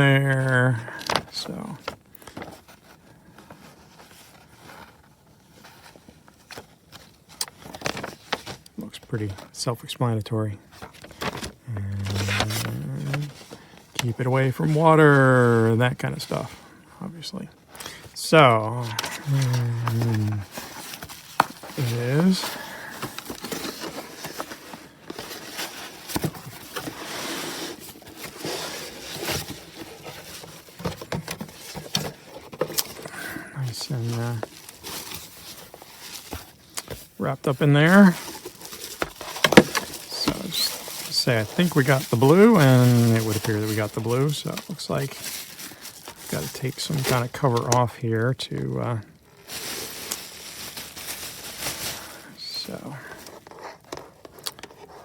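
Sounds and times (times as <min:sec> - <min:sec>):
paper rustling: 0:00.0 - 0:09.6, 0:10.7 - 0:55.0.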